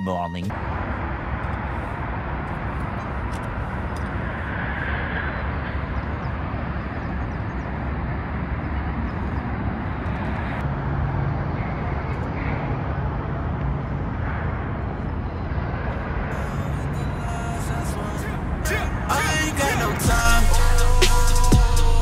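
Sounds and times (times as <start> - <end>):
low steady drone: 0.0 - 22.0
freeway traffic rumble: 0.1 - 22.0.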